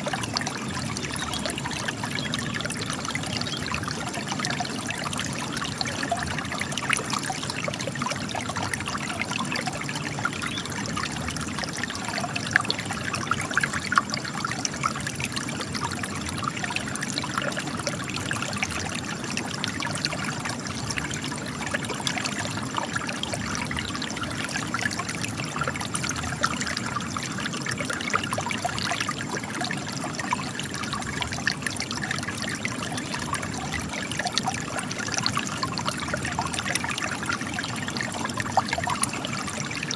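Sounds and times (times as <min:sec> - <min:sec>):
water trickling over rocks: 0:00.0 - 0:39.9.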